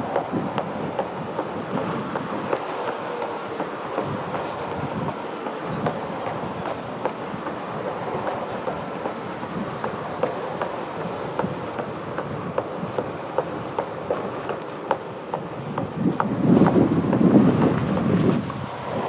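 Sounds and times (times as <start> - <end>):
wheel rolling on concrete: 0.0 - 19.0.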